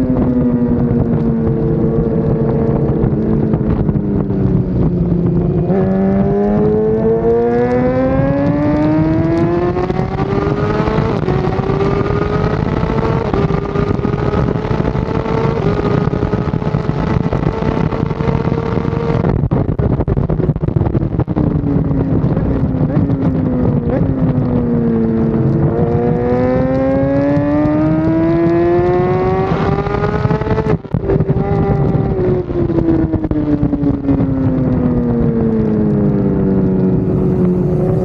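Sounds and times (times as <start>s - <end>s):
motorcycle engine at high revs: 0.0s - 19.3s, 21.8s - 38.0s.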